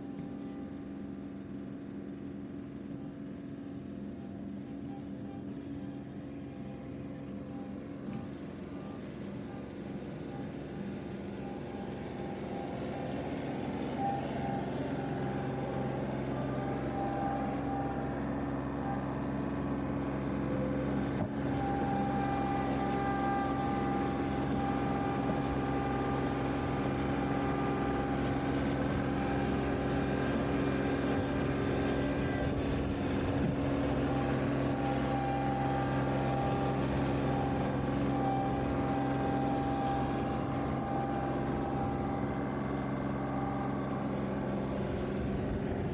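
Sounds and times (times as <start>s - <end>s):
tractor diesel engine running: 0.0s - 45.9s
high whine: 4.8s - 45.9s.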